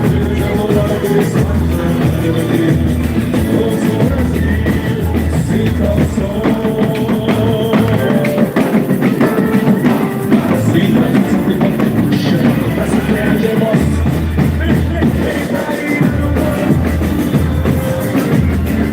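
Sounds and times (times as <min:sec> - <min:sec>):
heavy drumming and percussion: 0:00.0 - 0:18.9
held instrumental notes: 0:00.0 - 0:18.9.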